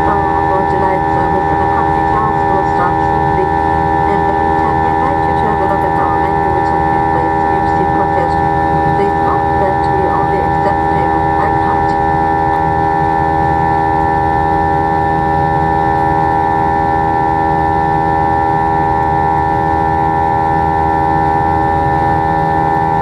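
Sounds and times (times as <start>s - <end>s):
jet engines droning in cabin: 0.0s - 23.0s.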